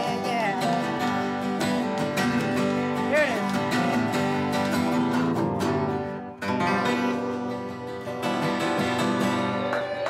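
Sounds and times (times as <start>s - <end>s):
acoustic guitars strummed and picked: 0.0s - 10.0s.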